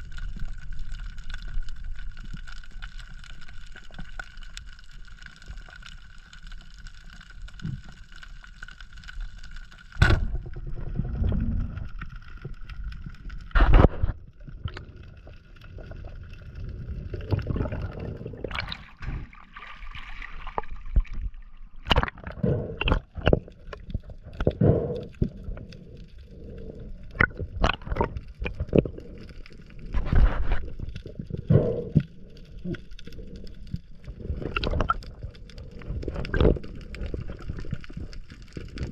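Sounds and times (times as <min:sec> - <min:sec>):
bubbling: 0:00.0 - 0:38.9
underwater multi-tone hum: 0:00.0 - 0:38.9.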